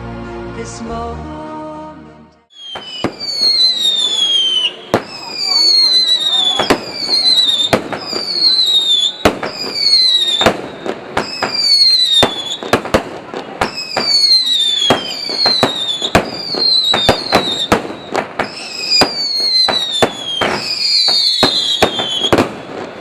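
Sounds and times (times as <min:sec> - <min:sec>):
fireworks bangs: 0:02.5 - 0:23.0
whistling firework shells: 0:02.5 - 0:23.0.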